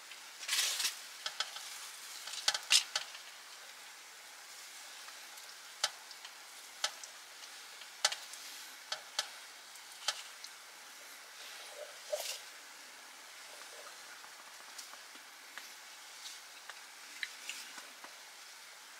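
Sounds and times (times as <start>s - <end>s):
fish sizzling on grill: 0.0s - 18.9s
sharp crackles and pops: 0.0s - 18.9s.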